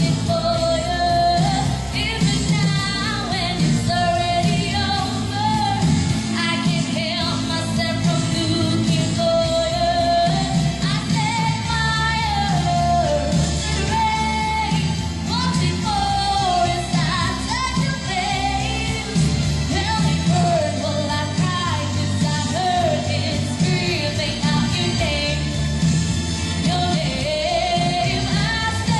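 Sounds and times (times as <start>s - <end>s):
woman singing a pop ballad: 0.0s - 28.9s.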